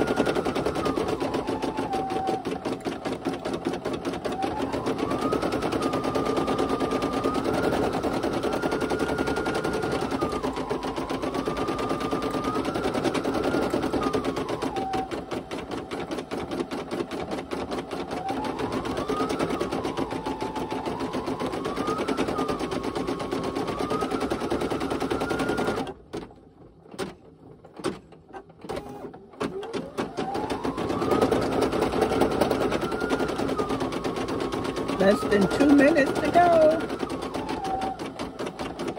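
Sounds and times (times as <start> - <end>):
embroidery machine stitching: 0.0 - 38.9.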